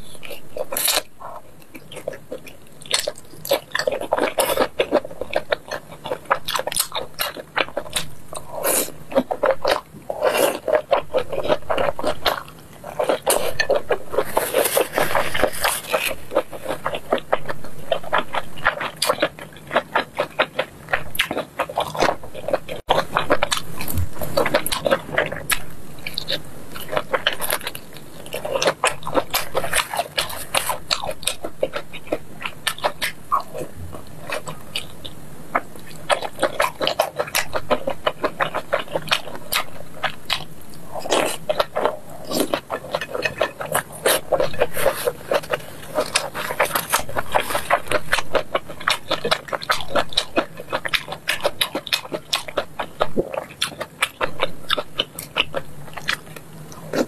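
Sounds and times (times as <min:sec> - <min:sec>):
biting and chewing: 0:00.0 - 0:57.0.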